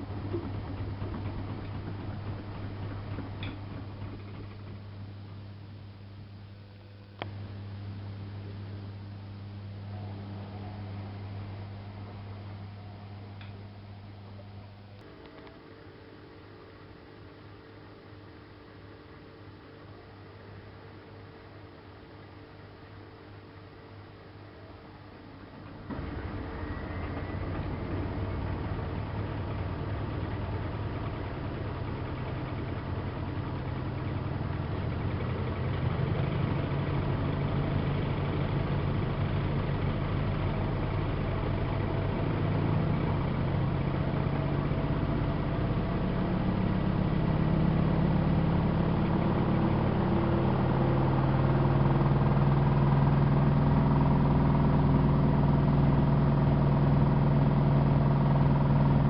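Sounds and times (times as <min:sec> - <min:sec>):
washing machine spinning up: 0:00.0 - 0:59.0.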